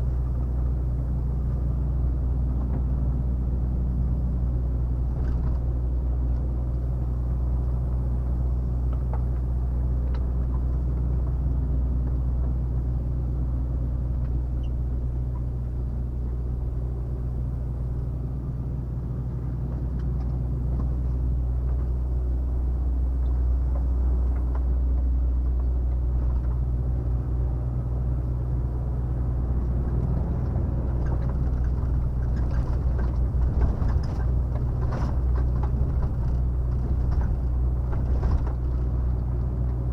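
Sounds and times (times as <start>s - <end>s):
diesel engine drone: 0.0s - 39.9s
road and tyre noise: 0.0s - 39.9s.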